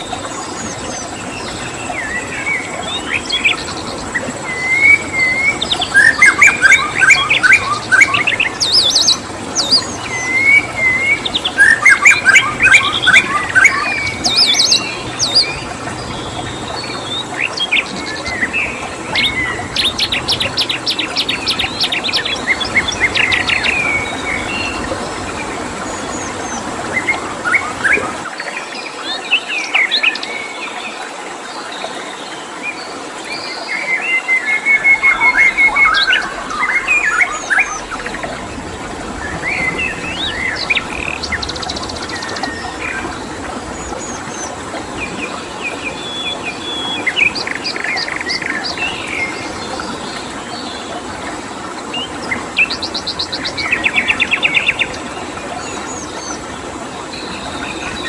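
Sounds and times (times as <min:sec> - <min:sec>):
songbirds chirping and trilling: 0:00.0 - 0:58.0
stream water flowing: 0:00.0 - 0:58.0.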